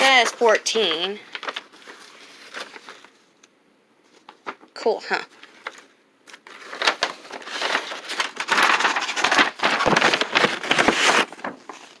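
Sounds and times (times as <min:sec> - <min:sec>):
plastic packaging crinkling: 0:00.0 - 0:03.5, 0:04.1 - 0:12.0.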